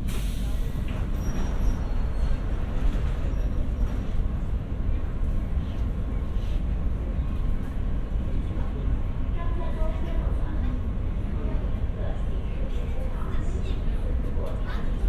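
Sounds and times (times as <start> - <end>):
faint passenger chatter: 0.0 - 15.0
low hum of train and station: 0.0 - 15.0.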